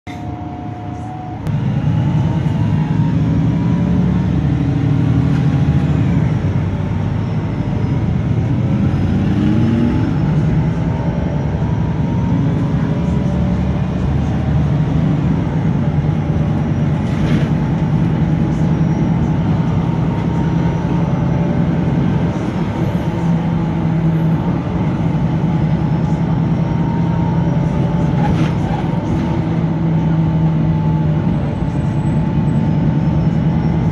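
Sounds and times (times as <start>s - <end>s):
bus engine drone: 0.0s - 33.9s.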